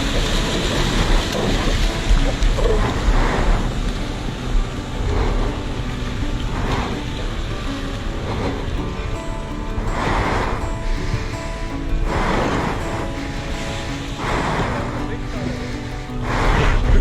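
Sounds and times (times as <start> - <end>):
waves splashing against boat: 0.0 - 17.0
wind buffeting microphone: 0.0 - 17.0.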